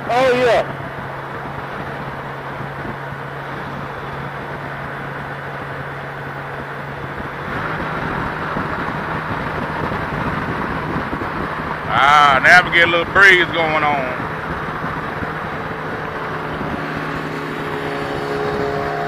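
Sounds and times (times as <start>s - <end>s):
motorcycle engine humming: 0.0s - 19.0s
road noise: 0.0s - 19.0s
wind rush on microphone: 0.0s - 19.0s.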